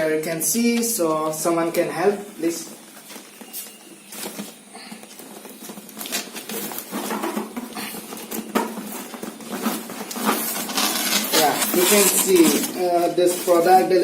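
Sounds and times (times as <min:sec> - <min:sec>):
cardboard scraping and rustling: 0:02.4 - 0:14.0.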